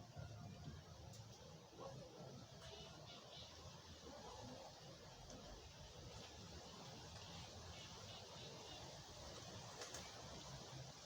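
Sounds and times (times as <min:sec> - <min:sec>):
faint low rumble and hiss: 0:00.0 - 0:11.0.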